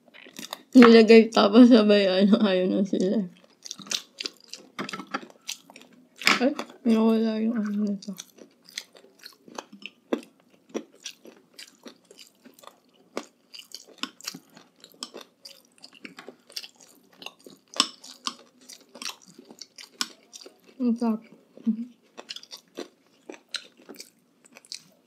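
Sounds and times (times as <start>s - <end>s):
crisp crunches of chewing food: 0.0s - 0.7s, 3.3s - 6.8s, 7.6s - 25.0s.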